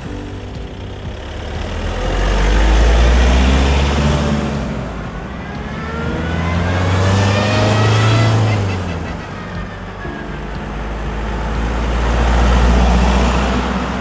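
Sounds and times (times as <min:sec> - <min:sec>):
diesel engine accelerating: 0:00.0 - 0:14.0.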